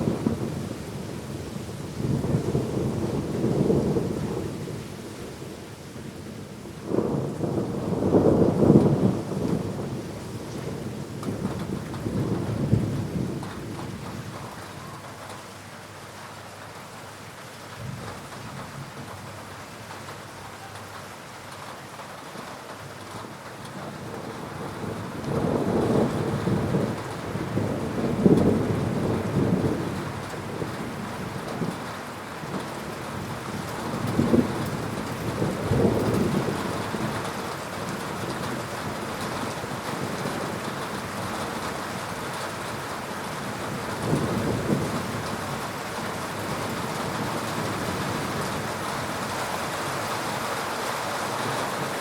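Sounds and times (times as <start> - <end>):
thunder rumble: 0.0 - 5.6, 6.2 - 15.4, 22.4 - 50.4
steady rain hissing: 0.0 - 52.0.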